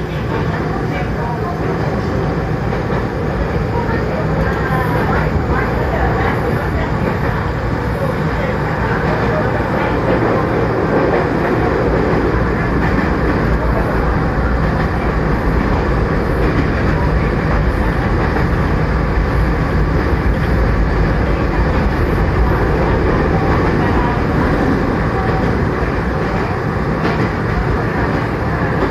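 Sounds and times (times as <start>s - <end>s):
train wheels on rails: 0.0s - 28.9s.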